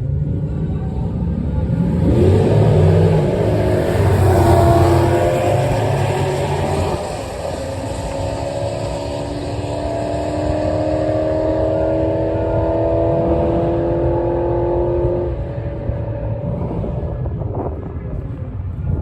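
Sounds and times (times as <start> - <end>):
drag car engine at full throttle: 0.0 - 19.0.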